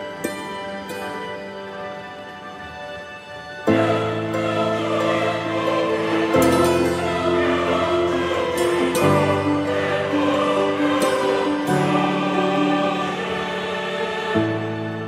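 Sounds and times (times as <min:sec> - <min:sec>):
choir singing long held notes: 0:00.0 - 0:15.0.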